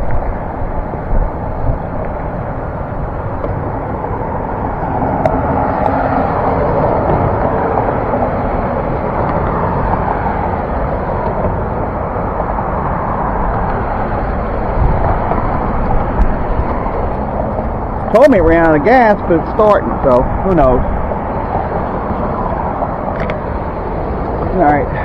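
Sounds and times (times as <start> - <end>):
pickup truck engine running: 0.0 - 25.0.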